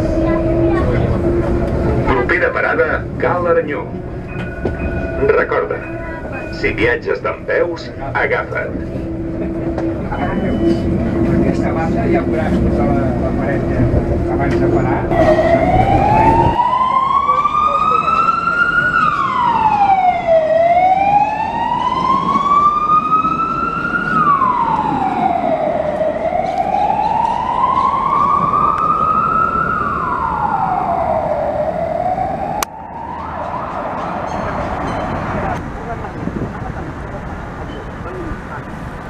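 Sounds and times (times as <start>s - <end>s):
emergency siren wailing: 0.0s - 35.6s
street traffic hum: 0.0s - 39.0s.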